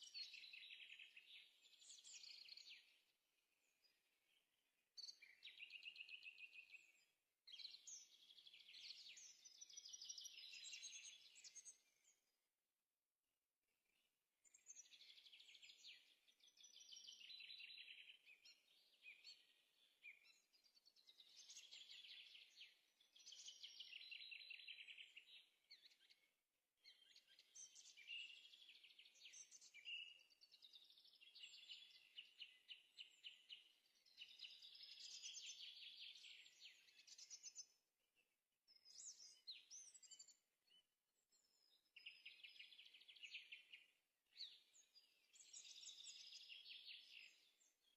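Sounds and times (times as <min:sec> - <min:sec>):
songbird song: 0:00.0 - 0:47.9.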